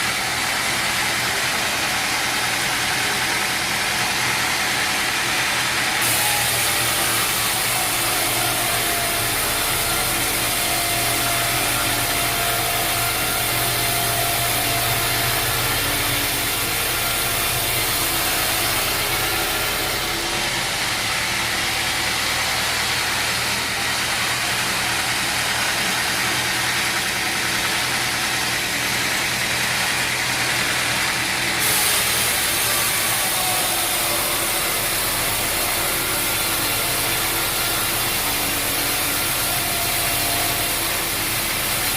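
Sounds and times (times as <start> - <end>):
sawmill machinery running: 0.0 - 41.9.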